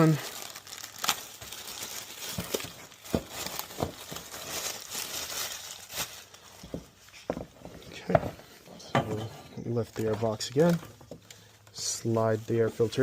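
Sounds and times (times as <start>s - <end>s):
plastic wrapping crinkling: 0.0s - 8.5s, 9.6s - 13.0s.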